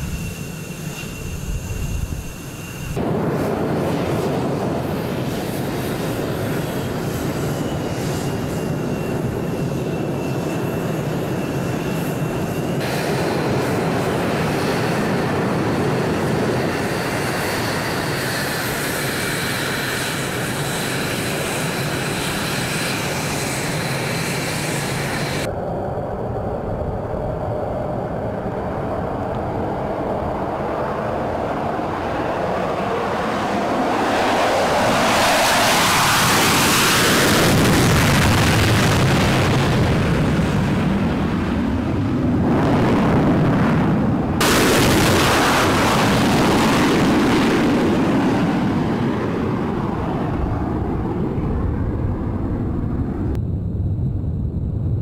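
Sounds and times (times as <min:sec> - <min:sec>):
jet engine whine: 0:00.0 - 0:55.0
jet engines rumbling: 0:00.0 - 0:55.0.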